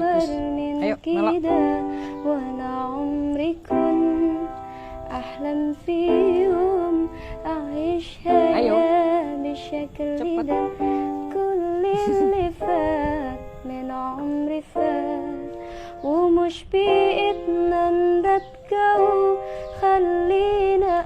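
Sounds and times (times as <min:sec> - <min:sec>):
person singing slow melody: 0:00.0 - 0:21.0
sustained musical accompaniment: 0:00.0 - 0:21.0.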